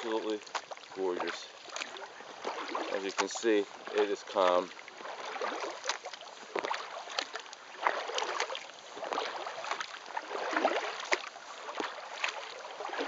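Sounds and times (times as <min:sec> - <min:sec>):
paddle strokes in water: 0:00.0 - 0:13.0.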